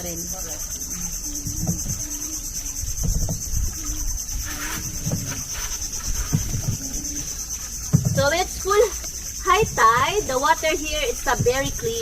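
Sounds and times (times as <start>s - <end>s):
insects buzzing: 0.0s - 12.0s
dull low knocks: 1.3s - 8.7s, 9.4s - 12.0s.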